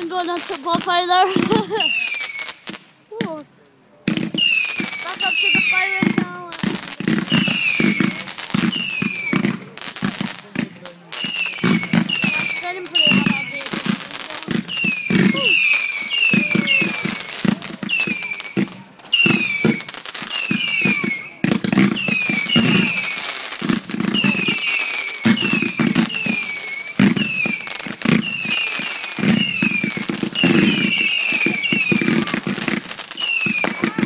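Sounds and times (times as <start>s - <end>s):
fireworks whistling: 0.0s - 3.5s, 4.1s - 34.0s
fireworks pops and bangs: 0.0s - 34.0s.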